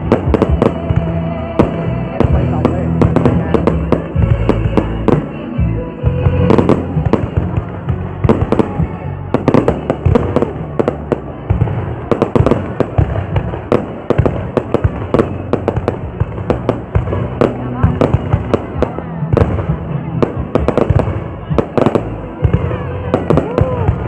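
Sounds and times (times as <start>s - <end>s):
fireworks banging: 0.0s - 24.0s
music playing: 0.0s - 24.0s.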